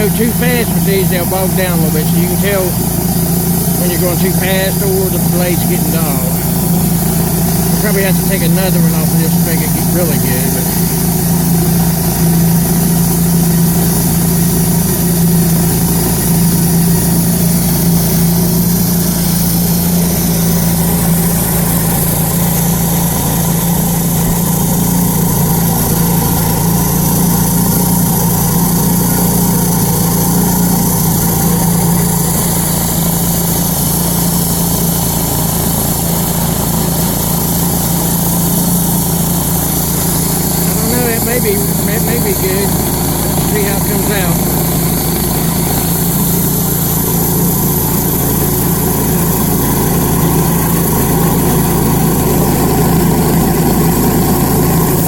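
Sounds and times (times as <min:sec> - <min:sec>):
band sawmill cutting log: 0:00.0 - 0:55.0
engine hum: 0:00.0 - 0:55.0.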